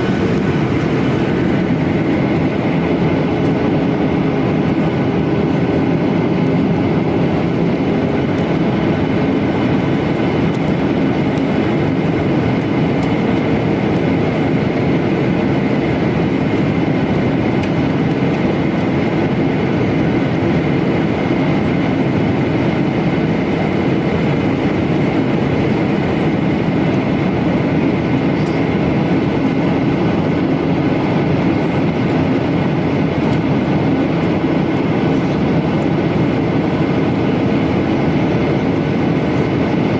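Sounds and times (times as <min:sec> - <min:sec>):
airplane cabin engine noise: 0:00.0 - 0:39.9
high whine: 0:00.0 - 0:39.9.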